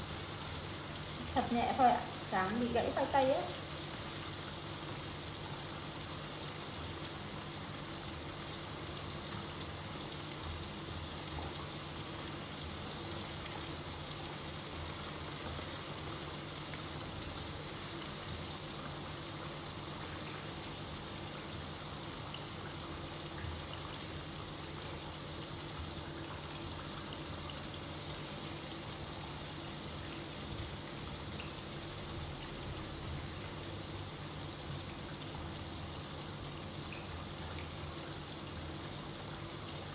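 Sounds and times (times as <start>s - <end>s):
potatoes sizzling in hot oil: 0.0s - 39.7s.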